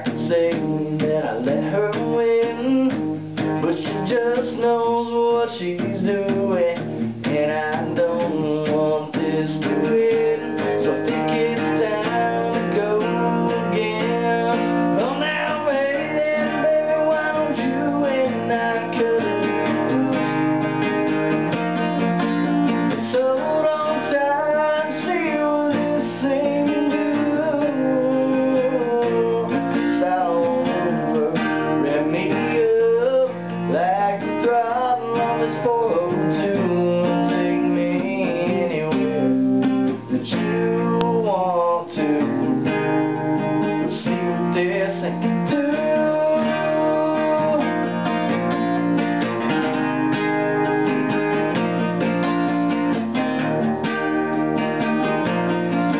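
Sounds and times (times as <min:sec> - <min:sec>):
man singing: 0:00.0 - 0:42.8, 0:43.4 - 0:55.9
acoustic guitar strummed and picked: 0:00.0 - 0:55.9.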